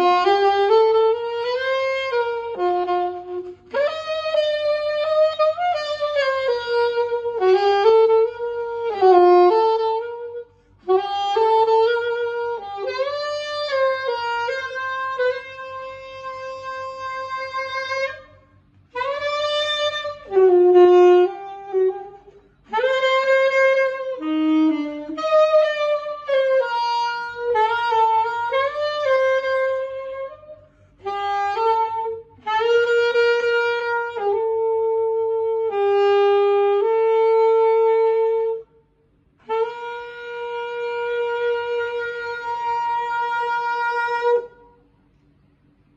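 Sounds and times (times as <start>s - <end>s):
alto saxophone solo: 0.0s - 45.9s.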